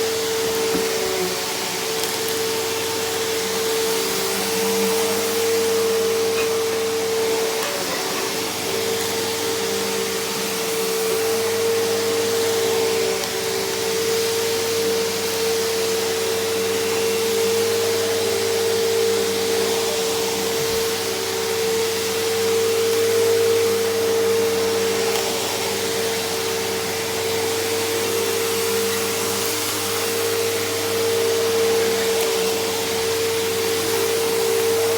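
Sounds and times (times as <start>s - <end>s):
upright vacuum cleaner running: 0.0s - 34.9s.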